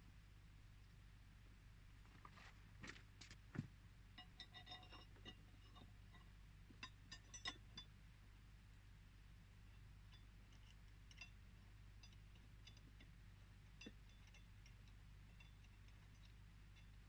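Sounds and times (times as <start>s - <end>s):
low steady hum: 0.0s - 17.0s
faint light ticks and clinks: 2.0s - 17.0s.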